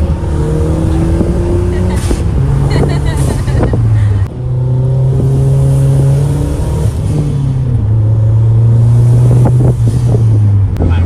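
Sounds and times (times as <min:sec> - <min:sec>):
car engine revving hard: 0:00.0 - 0:10.7.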